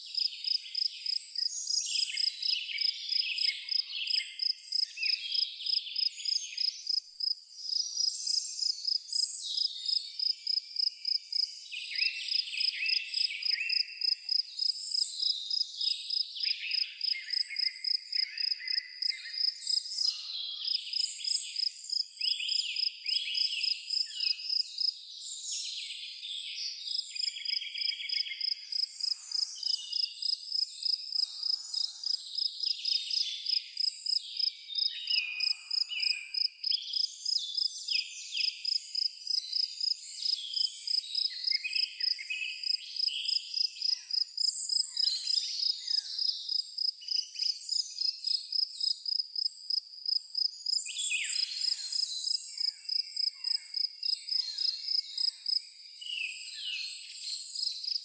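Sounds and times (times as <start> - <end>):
cricket chirping: 0.0 - 11.5, 12.3 - 25.0, 26.9 - 37.7, 38.4 - 56.4, 57.5 - 58.0
songbirds singing: 0.0 - 58.0.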